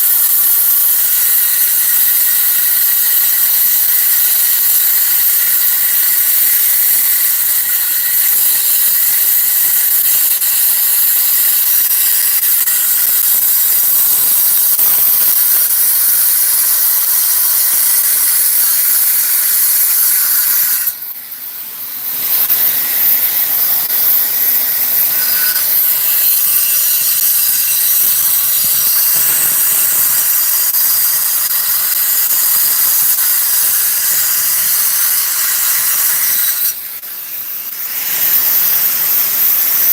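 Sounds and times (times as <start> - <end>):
angle grinder cutting stone: 0.0 - 39.9.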